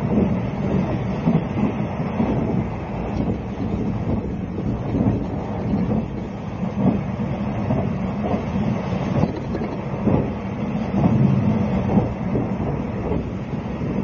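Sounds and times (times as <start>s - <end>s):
train coach low rumble: 0.0s - 14.0s.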